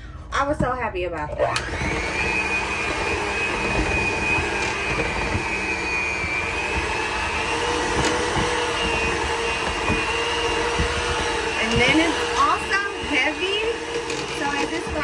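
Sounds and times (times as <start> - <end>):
electric hand mixer running: 1.3 - 15.0.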